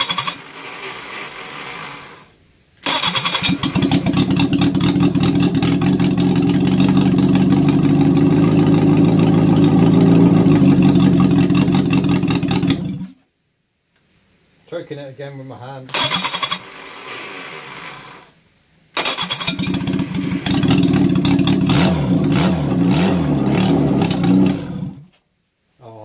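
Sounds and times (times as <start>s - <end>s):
petrol engine starting and running: 0.0s - 13.1s, 15.9s - 18.3s, 19.0s - 25.1s.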